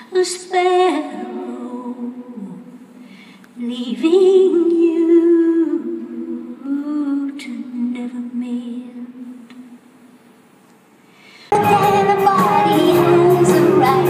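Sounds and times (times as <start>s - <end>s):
woman singing with vibrato: 0.0s - 3.0s, 3.6s - 9.8s, 11.5s - 14.0s.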